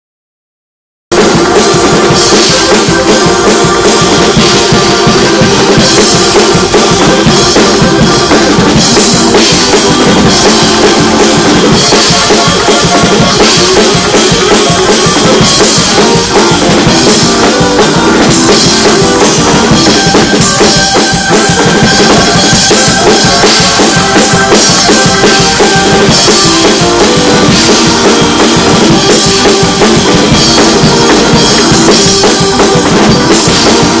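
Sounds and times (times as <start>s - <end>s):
drum kit: 1.1s - 34.0s
instrumental praise music: 1.1s - 34.0s
sustained pitched notes: 1.1s - 34.0s.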